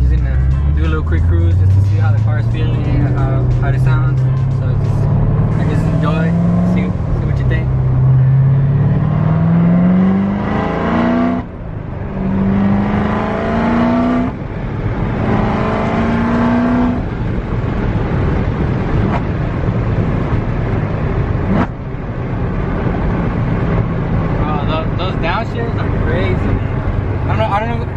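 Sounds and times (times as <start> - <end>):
car engine accelerating through gears: 0.0 - 27.7.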